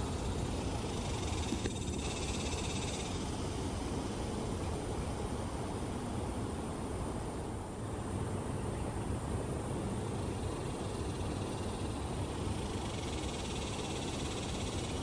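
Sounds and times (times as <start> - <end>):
low rumble of outdoor background: 0.0 - 15.0.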